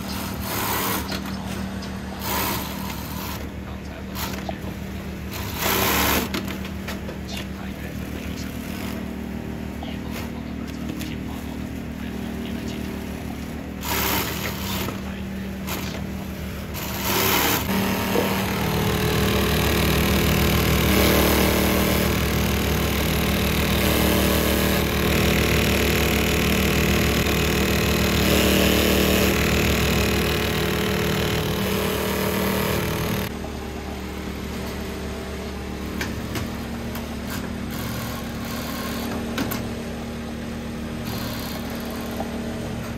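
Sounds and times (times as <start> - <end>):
leather-working machine running: 0.0 - 42.9
motor hum: 0.0 - 42.9.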